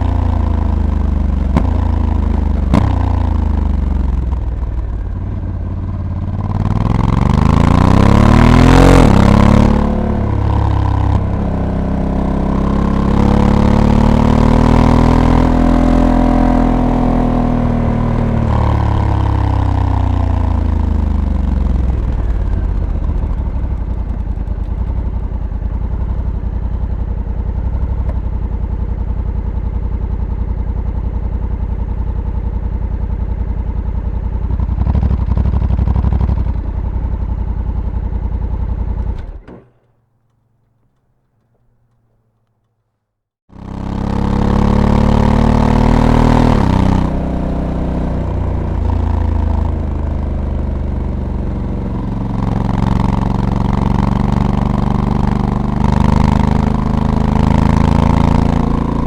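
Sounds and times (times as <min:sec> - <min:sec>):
motorcycle engine running: 0:00.0 - 0:42.6, 0:43.5 - 0:59.0.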